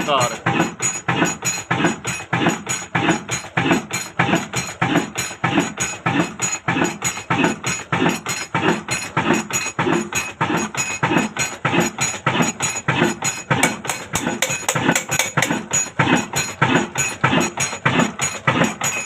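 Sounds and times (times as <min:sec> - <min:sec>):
diesel engine running slowly: 0:00.0 - 0:19.0.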